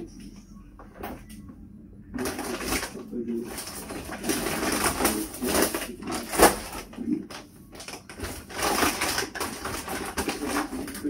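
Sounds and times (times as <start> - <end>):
plastic bags rustling: 2.1 - 11.0.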